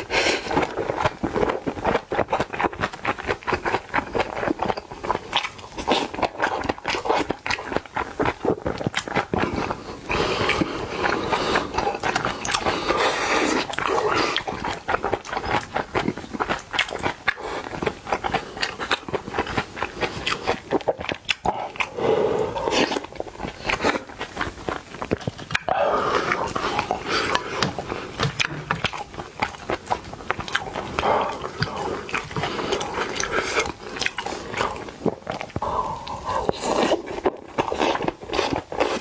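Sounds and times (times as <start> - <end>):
man chewing food: 0.0 - 39.0.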